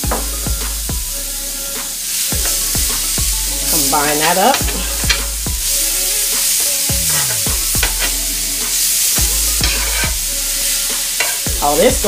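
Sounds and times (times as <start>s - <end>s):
food sizzling on griddle: 0.0s - 12.0s
metal spatula scraping griddle: 1.6s - 11.9s.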